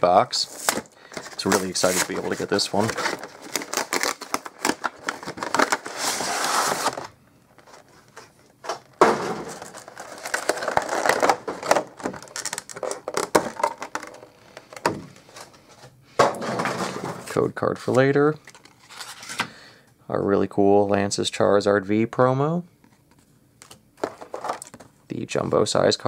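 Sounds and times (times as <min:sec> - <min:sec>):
cardboard and plastic packaging rustling: 0:00.3 - 0:19.5, 0:22.9 - 0:25.0.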